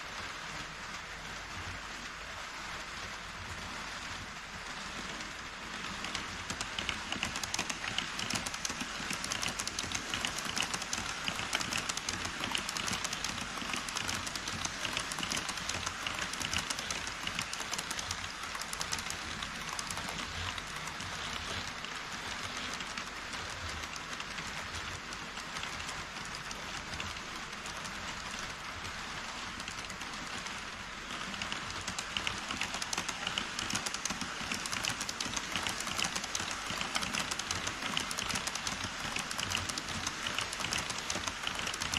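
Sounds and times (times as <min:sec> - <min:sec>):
model train wheels rattling: 0:04.9 - 0:41.9.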